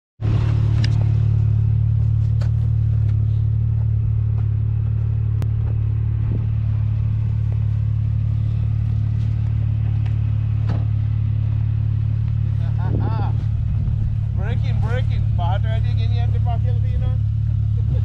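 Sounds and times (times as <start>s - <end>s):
engine idling: 0.2s - 18.0s.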